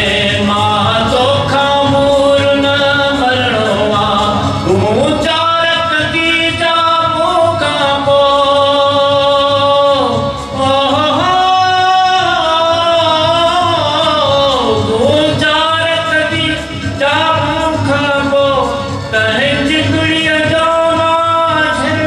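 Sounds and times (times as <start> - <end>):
man singing ornamented notes: 0.0 - 22.0.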